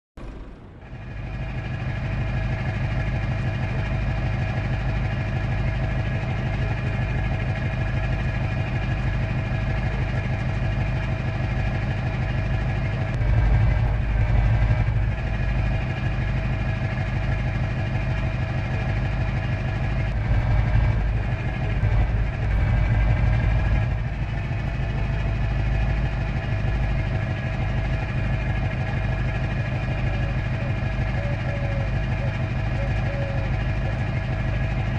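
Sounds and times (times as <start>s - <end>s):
truck engine rumbling: 0.2s - 34.9s.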